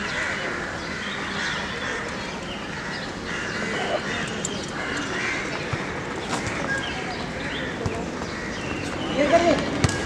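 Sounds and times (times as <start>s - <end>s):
busy outdoor background: 0.0s - 10.0s.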